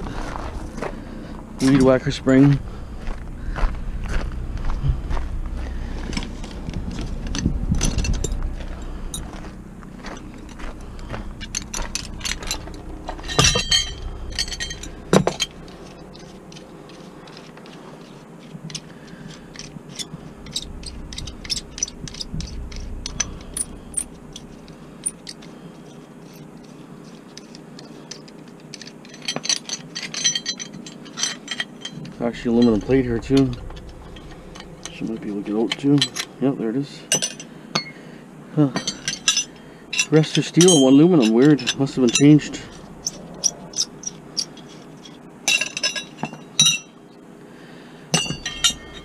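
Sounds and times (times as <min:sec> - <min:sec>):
scrap metal clinking and scraping: 0:00.0 - 0:47.2, 0:48.1 - 0:49.0.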